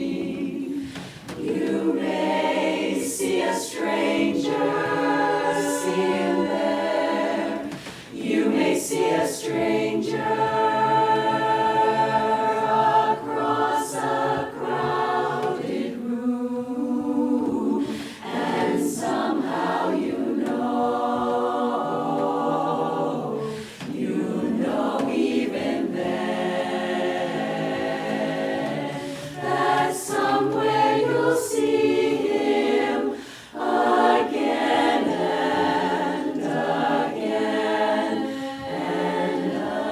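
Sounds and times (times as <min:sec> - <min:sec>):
a cappella chorus singing: 0:00.0 - 0:39.9.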